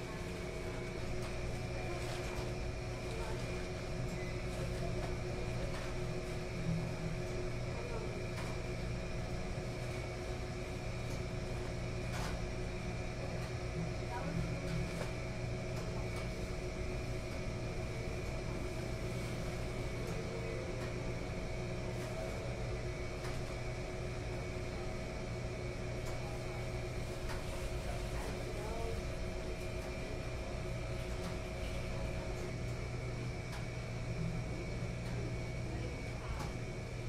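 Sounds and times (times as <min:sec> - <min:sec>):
washing machines and dryers humming: 0:00.0 - 0:37.0.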